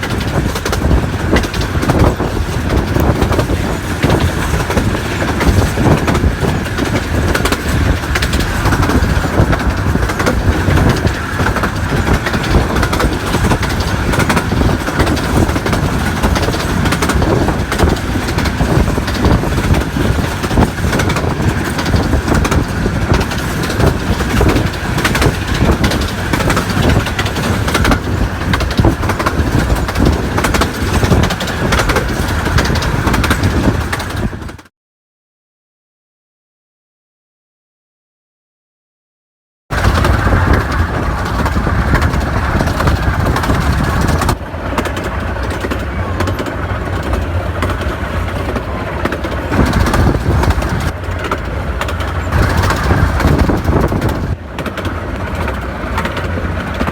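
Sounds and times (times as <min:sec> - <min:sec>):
train wheels clattering over rails: 0:00.0 - 0:34.7, 0:39.7 - 0:56.9.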